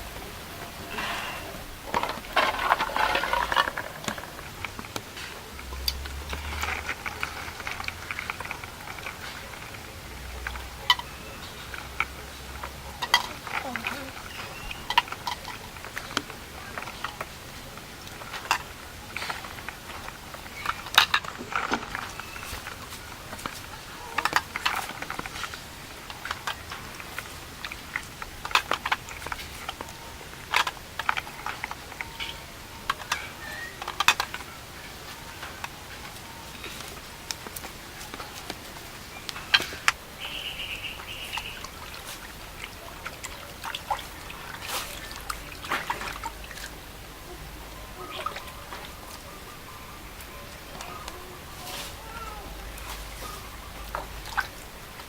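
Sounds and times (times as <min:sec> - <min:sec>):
water dripping: 0:00.0 - 0:55.0
water poured and splashed: 0:00.0 - 0:55.0.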